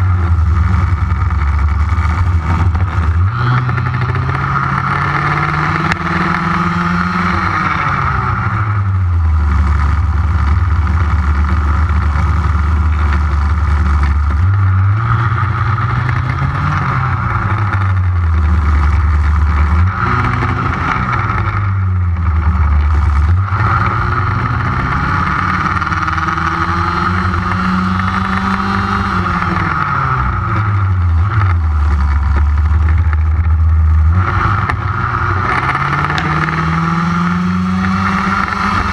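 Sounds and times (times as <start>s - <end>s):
small two-stroke engine revving: 0.0s - 32.8s, 34.1s - 38.9s.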